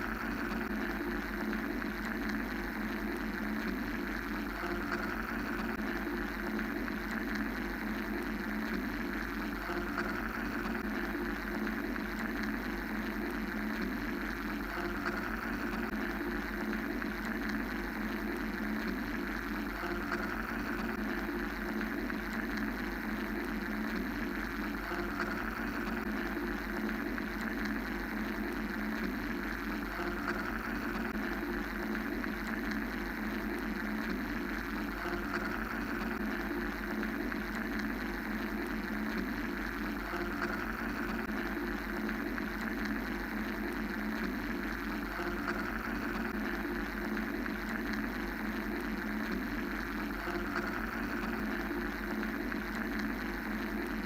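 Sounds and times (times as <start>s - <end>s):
mechanical whirring hum: 0.0s - 54.0s.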